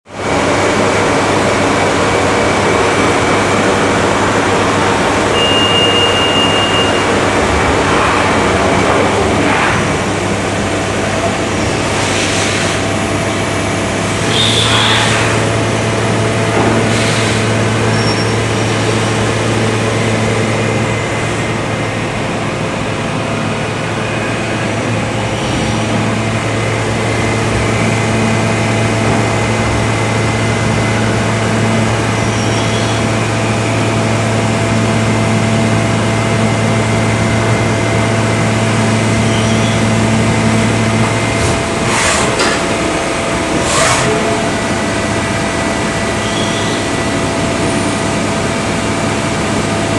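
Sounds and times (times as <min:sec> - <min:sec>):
lathes humming and whining: 0:00.1 - 0:49.9.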